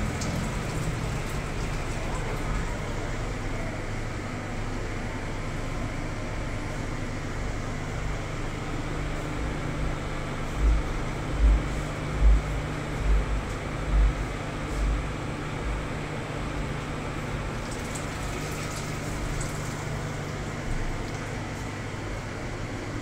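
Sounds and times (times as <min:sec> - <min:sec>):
low mechanical hum with hiss: 0:00.0 - 0:23.0.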